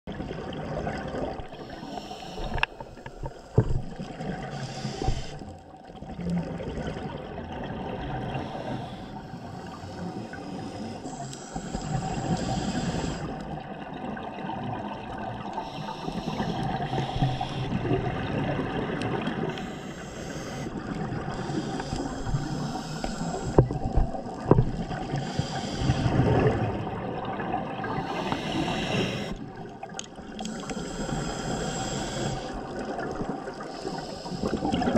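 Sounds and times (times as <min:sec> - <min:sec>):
muffled underwater water noise: 0:00.1 - 0:34.9.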